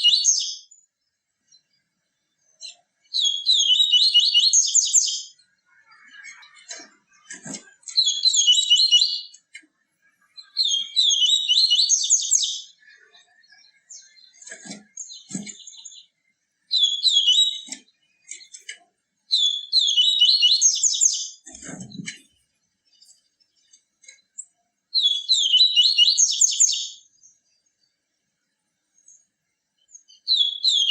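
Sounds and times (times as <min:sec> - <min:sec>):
bird singing chirpy phrases: 0:00.0 - 0:18.7, 0:19.3 - 0:30.9.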